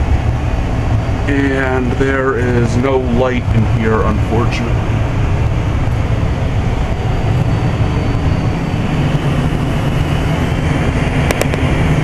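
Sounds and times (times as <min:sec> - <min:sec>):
blower rumble and air rush: 0:00.0 - 0:12.0
faint high whine: 0:00.0 - 0:12.0.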